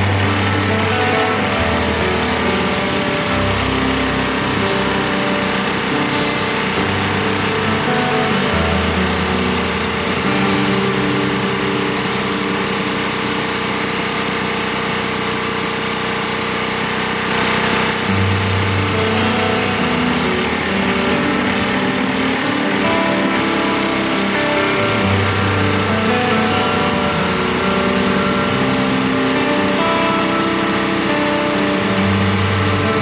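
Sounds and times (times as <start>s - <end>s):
drilling rig engine running: 0.0s - 33.0s.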